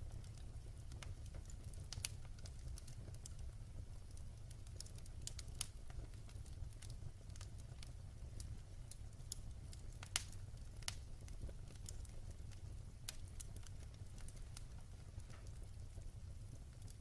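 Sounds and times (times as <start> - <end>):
flames rumbling: 0.0 - 17.0
wood fire crackling: 0.0 - 17.0.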